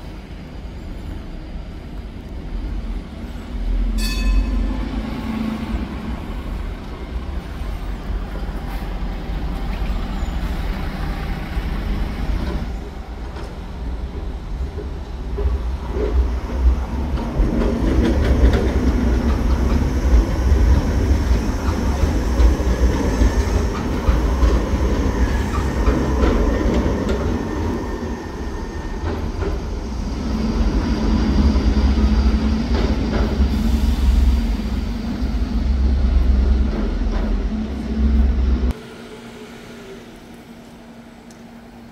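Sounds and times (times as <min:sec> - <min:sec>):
street traffic rumbling: 0:00.0 - 0:40.2
tram wheel and rail noise: 0:00.0 - 0:41.9.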